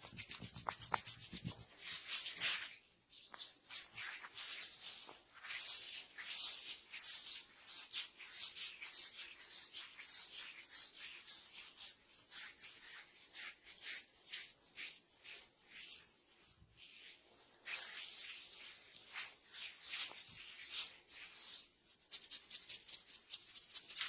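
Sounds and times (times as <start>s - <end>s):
hands rubbing hair: 0.0s - 24.0s.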